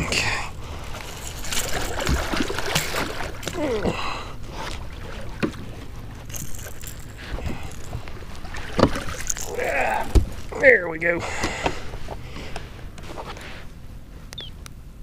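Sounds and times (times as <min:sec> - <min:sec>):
water splashing against kayak hull: 0:00.6 - 0:12.7.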